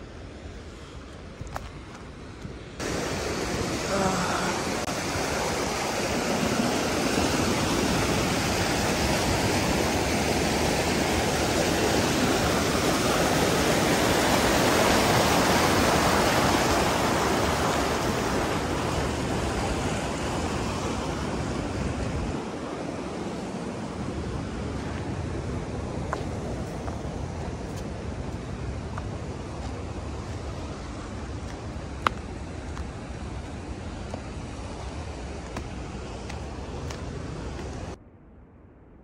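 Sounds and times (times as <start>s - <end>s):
mountain stream rushing: 0.0s - 38.0s.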